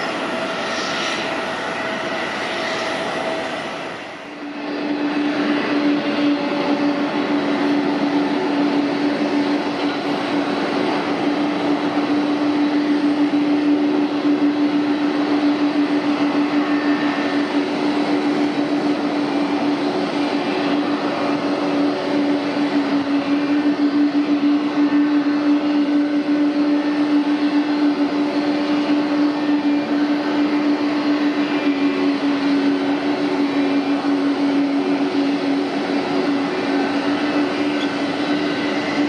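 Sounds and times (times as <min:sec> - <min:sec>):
jet engines droning: 0:00.0 - 0:39.0.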